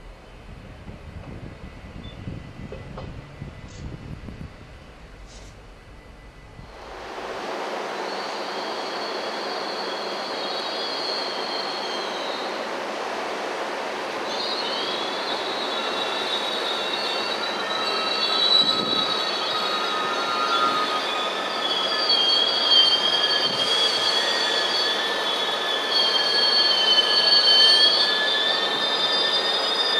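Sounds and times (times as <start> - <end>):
railcar rolling past: 0.0 - 29.9
wheels squealing on rails: 0.0 - 29.9.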